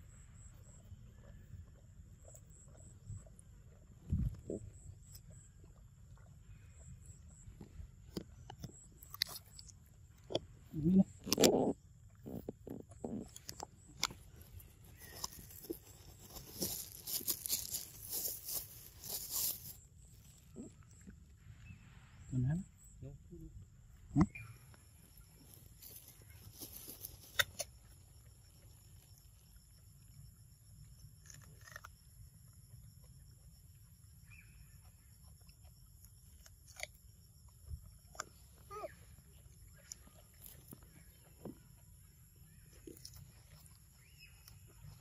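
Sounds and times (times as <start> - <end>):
faint chirps: 0.0 - 36.4, 37.4 - 45.0.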